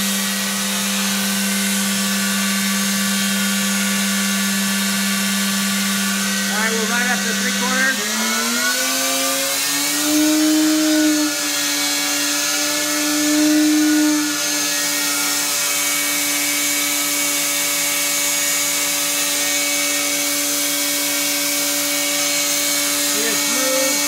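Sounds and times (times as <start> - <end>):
belt sander motor humming: 0.0 - 24.0.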